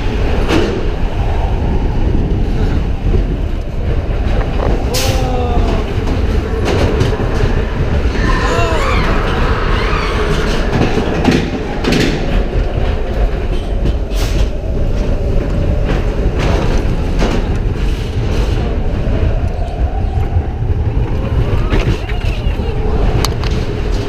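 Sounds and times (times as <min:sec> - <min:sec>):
roller-coaster rumbling on steel track: 0:00.0 - 0:24.0
wheels clacking: 0:00.0 - 0:24.0.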